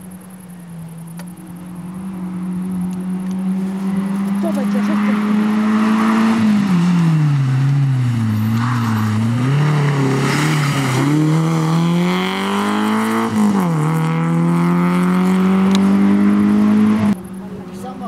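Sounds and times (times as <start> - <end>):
rally car engine revving: 0.1 - 17.3.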